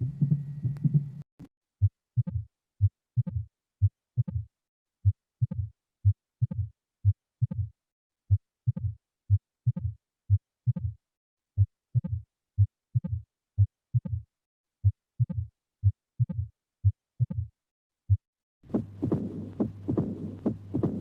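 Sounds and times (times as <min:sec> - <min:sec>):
heartbeat lub-dub: 0:01.8 - 0:07.7, 0:08.3 - 0:11.0, 0:11.6 - 0:14.2, 0:14.8 - 0:17.5, 0:18.1 - 0:21.0.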